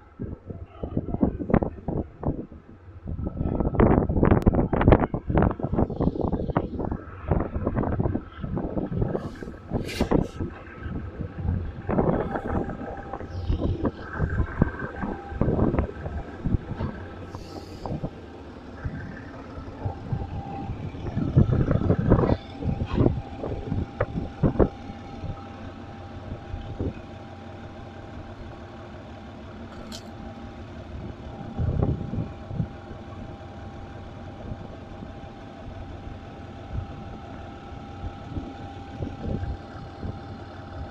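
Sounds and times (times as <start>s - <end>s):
locomotive engine idling: 0.1s - 40.9s.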